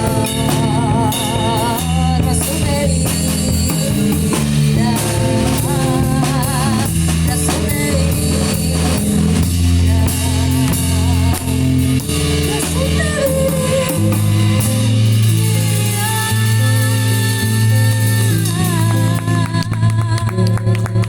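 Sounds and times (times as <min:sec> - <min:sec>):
bass guitar: 0:00.0 - 0:21.0
drum kit beat: 0:00.0 - 0:21.0
guitar: 0:00.0 - 0:21.0
wavering lead melody: 0:00.0 - 0:21.0.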